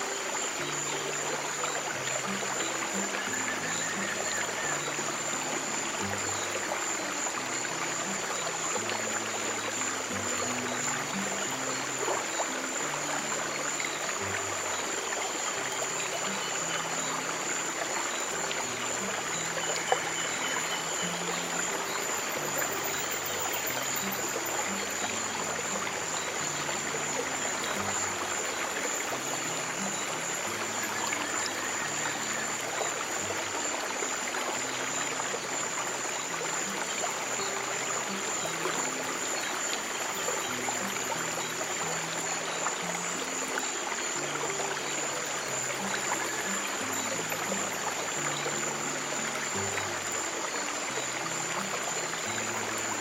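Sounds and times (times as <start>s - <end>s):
stream water trickling: 0.0s - 53.0s.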